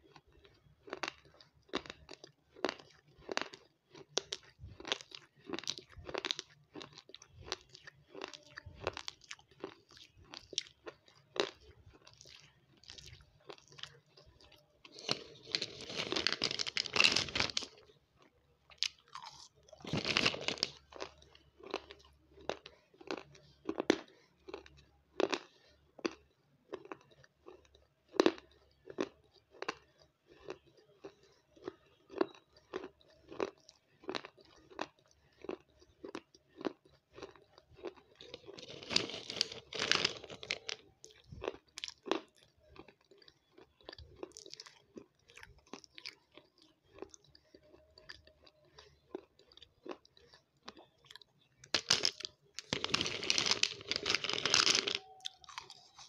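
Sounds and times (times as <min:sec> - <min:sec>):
crunchy snack chewing: 0:00.0 - 0:56.0.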